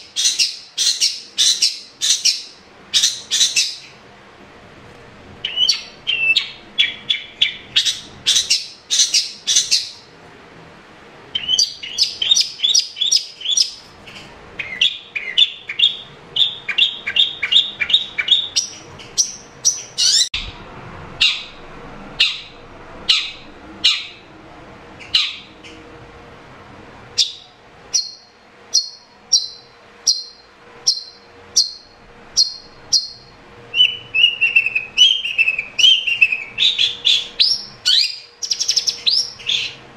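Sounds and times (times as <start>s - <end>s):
bird chattering song: 0.0s - 4.0s, 5.4s - 10.1s, 11.3s - 20.5s, 21.2s - 21.6s, 22.2s - 24.3s, 25.0s - 25.8s, 27.2s - 39.8s
high bird calls: 0.0s - 4.0s, 5.4s - 10.1s, 11.3s - 20.5s, 21.2s - 21.6s, 22.2s - 24.3s, 25.0s - 25.8s, 27.2s - 39.8s.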